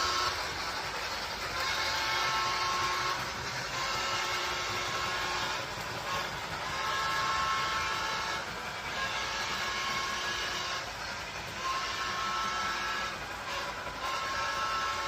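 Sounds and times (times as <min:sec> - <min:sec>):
train running with whine: 0:00.0 - 0:15.0.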